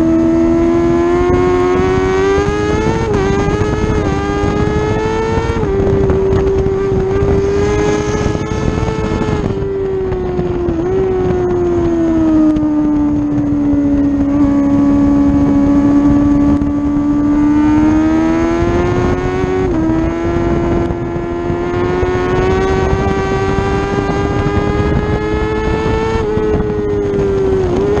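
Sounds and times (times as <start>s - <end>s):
motorcycle engine pulling hard: 0.0s - 28.0s
wind rush: 0.0s - 28.0s.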